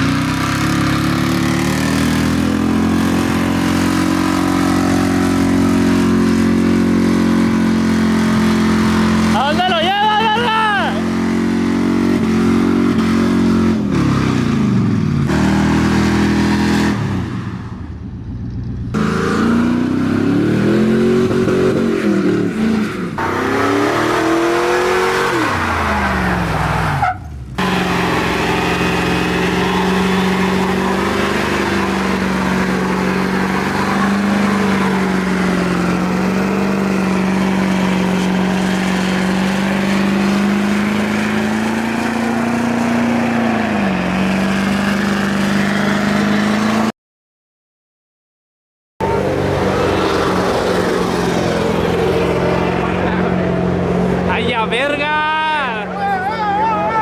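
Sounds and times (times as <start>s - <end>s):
vehicle engine revving: 0.0s - 46.9s, 49.0s - 57.0s.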